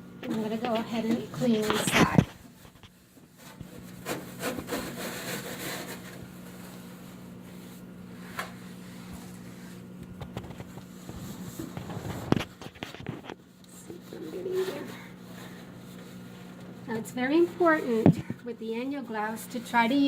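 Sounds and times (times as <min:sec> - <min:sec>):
steady low hum: 0:00.0 - 0:20.0
glove scrubbing inside microwave: 0:00.3 - 0:20.0.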